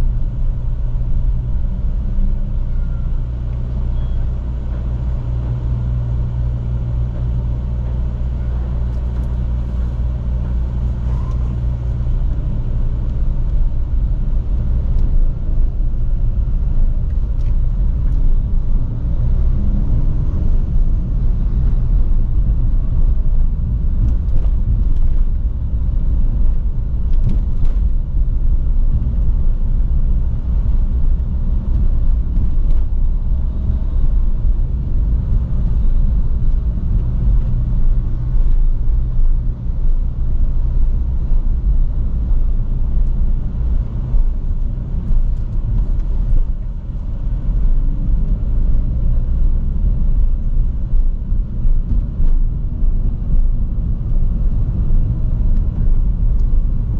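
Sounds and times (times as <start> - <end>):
road noise: 0.0 - 56.9
sports car engine and exhaust: 0.0 - 56.9.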